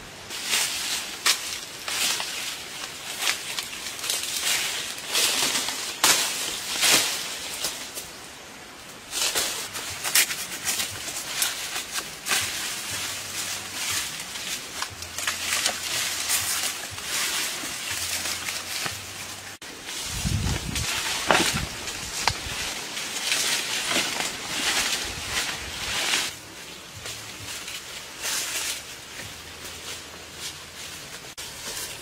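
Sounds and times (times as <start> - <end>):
leaves and branches rustling: 0.0 - 32.0.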